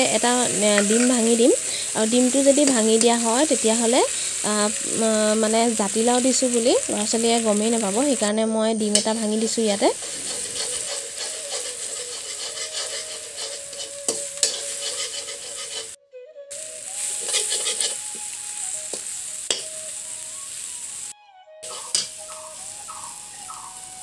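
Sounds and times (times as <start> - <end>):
metal spatula scraping a pan: 0.0 - 16.0, 16.6 - 19.8, 21.6 - 22.4
egg sizzling in a pan: 0.0 - 24.0.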